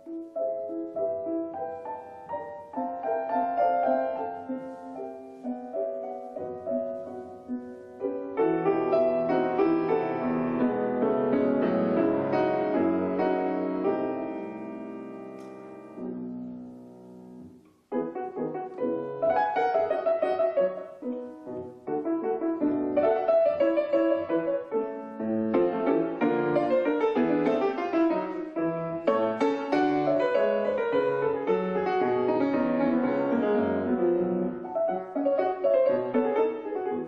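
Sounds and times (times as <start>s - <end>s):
solo piano piece: 0.0s - 37.0s.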